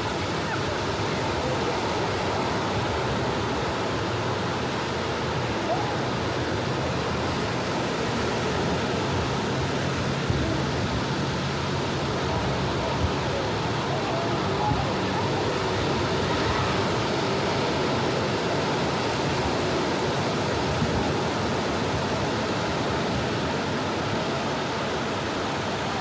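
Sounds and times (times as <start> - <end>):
sea waves washing on beach: 0.0 - 26.0.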